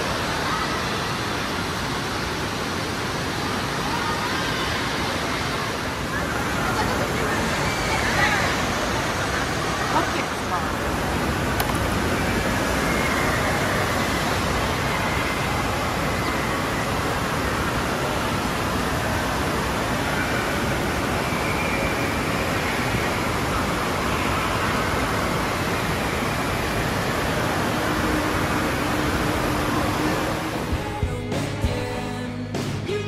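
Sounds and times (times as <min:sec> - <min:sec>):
rushing and splashing water: 0:00.0 - 0:31.1.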